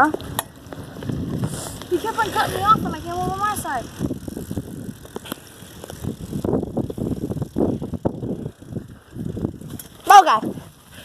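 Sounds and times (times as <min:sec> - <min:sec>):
bicycle rattling on bumpy trail: 0:00.0 - 0:11.0.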